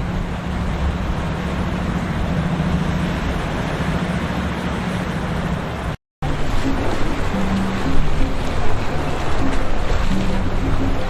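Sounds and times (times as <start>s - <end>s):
boat engine drone: 0.0s - 11.0s
even hum: 0.0s - 11.0s
waves washing: 0.0s - 11.0s.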